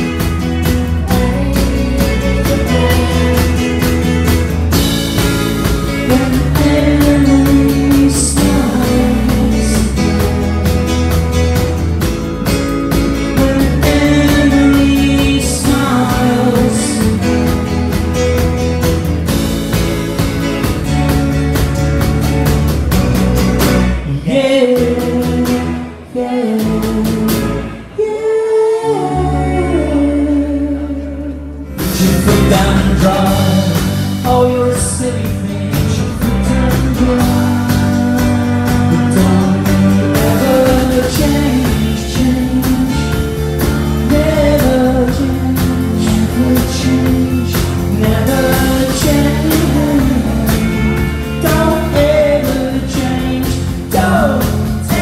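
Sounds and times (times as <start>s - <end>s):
drums: 0.0s - 28.0s, 31.1s - 55.0s
acoustic guitar: 0.0s - 55.0s
electric guitars: 0.0s - 55.0s.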